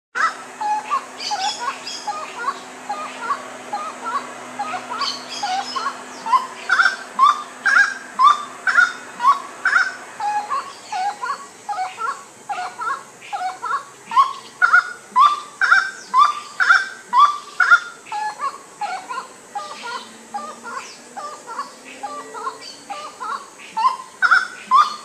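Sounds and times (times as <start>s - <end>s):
bird calling repeated notes: 0.2s - 25.0s.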